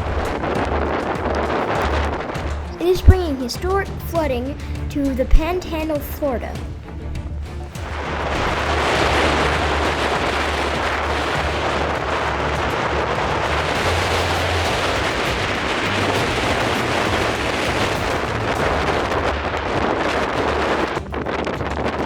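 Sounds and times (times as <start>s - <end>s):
strong wind on microphone: 0.0s - 22.0s.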